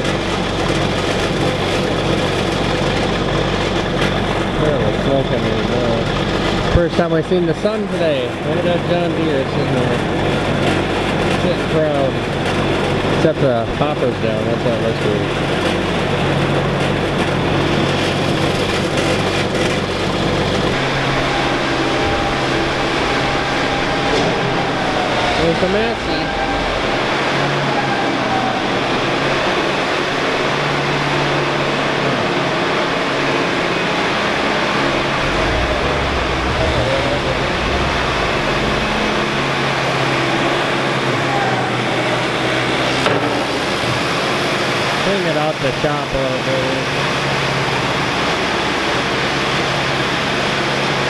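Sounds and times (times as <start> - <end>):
tractor diesel engine idling: 0.0 - 48.4.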